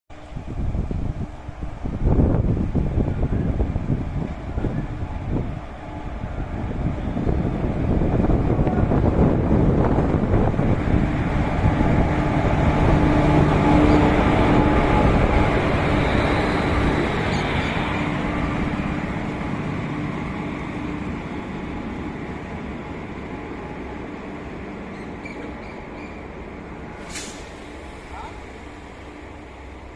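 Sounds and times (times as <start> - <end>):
locomotive humming: 0.1 - 29.9.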